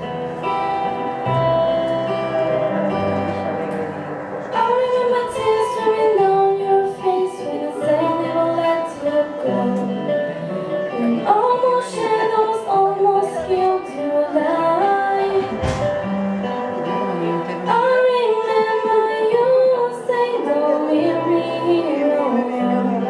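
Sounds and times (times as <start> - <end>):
instrumental accompaniment: 0.0 - 23.0
women singing slow melody: 2.3 - 15.9, 16.5 - 23.0.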